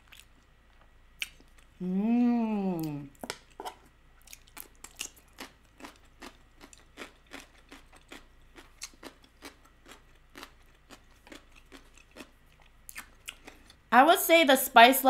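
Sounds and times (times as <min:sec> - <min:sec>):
person chewing crunchy food: 0:00.0 - 0:01.8, 0:03.1 - 0:13.8.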